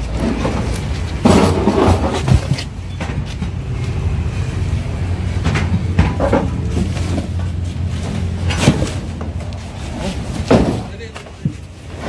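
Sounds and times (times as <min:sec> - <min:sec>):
heavy steel knocks and clunks: 0:00.0 - 0:03.8, 0:05.3 - 0:12.0.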